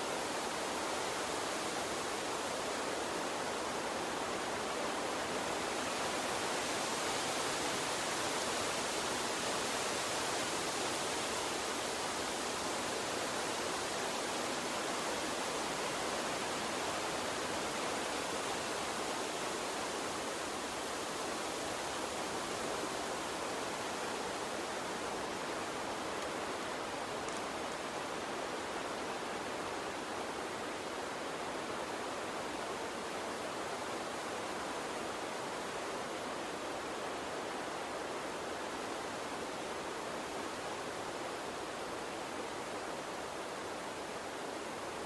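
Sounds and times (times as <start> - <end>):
gentle stream flowing: 0.0 - 45.0.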